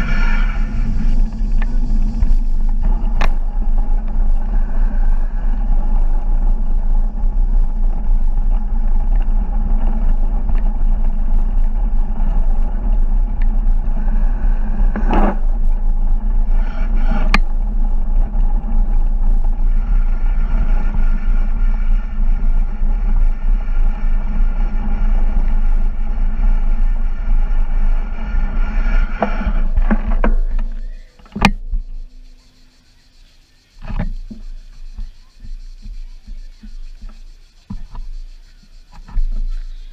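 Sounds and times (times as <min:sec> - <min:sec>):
wheels rolling on gravel: 0:00.0 - 0:39.9
wind rumble: 0:00.0 - 0:39.9.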